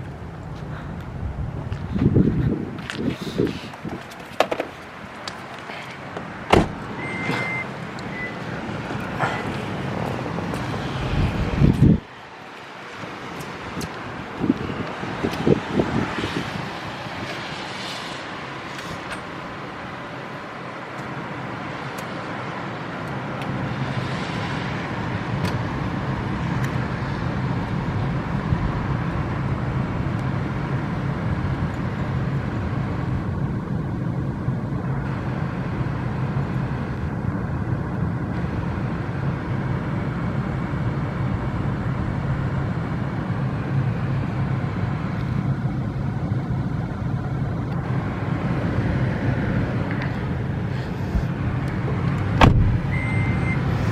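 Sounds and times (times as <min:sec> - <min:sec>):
car engine and road hum: 0:00.0 - 0:53.9.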